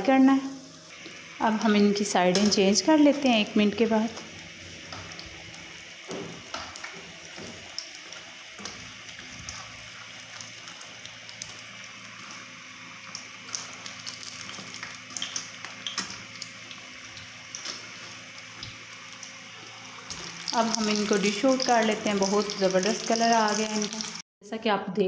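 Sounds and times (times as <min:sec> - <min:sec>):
oil sizzling with pops: 0:00.7 - 0:24.2.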